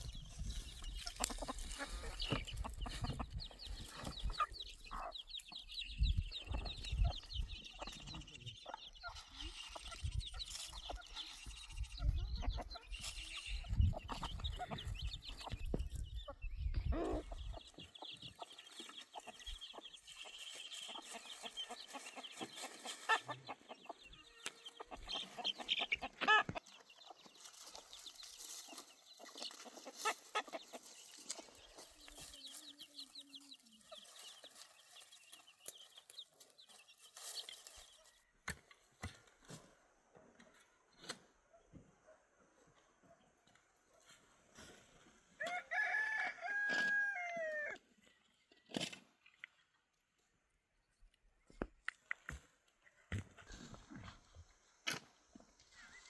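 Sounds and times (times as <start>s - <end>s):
chickens clucking: 0.0s - 48.8s.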